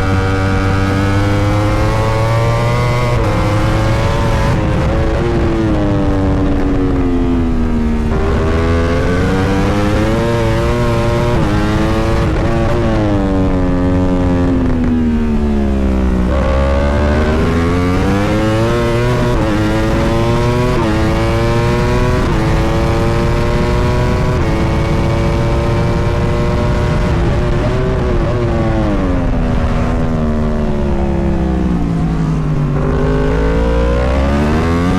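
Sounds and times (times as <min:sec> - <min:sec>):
motorcycle engine racing: 0:00.0 - 0:34.9.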